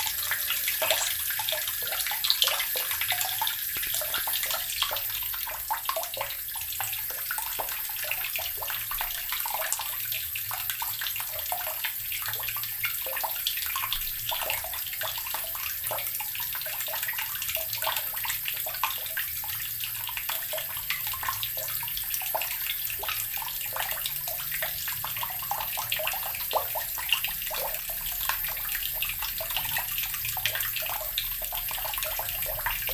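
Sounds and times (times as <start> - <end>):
water running from a tap: 0.0 - 32.9.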